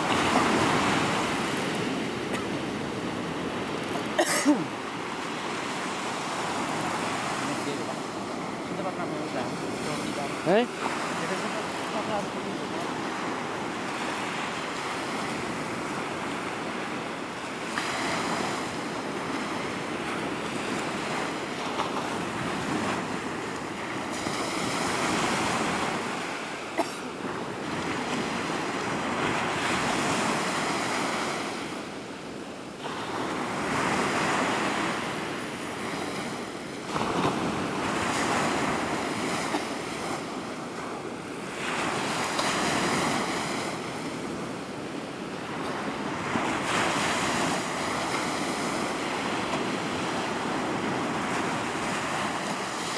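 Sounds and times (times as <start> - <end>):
surf breaking on shore: 0.0 - 52.9.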